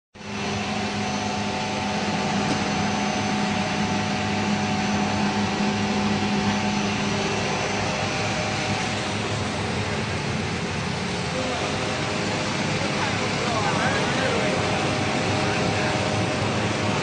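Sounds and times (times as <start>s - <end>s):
machine hum with low drone: 0.2s - 17.0s.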